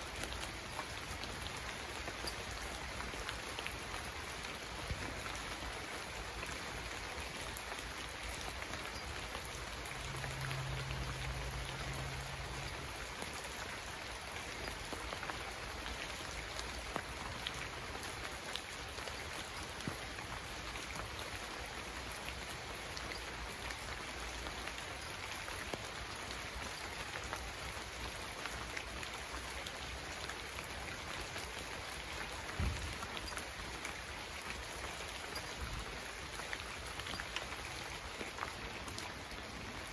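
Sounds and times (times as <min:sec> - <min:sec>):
raindrop ticks: 0:00.0 - 0:39.9
steady rain: 0:00.0 - 0:39.9.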